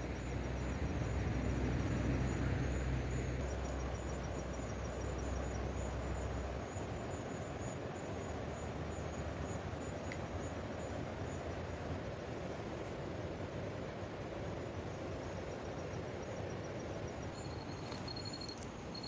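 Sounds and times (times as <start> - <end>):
insects chirping trill: 0.0 - 19.0
outdoor background hiss: 0.0 - 19.0.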